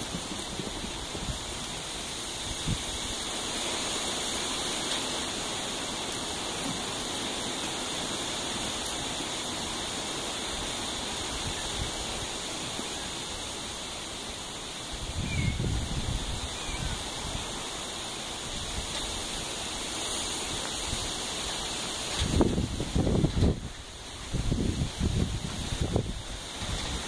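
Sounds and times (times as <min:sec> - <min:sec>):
steady outdoor hiss: 0:00.0 - 0:27.0.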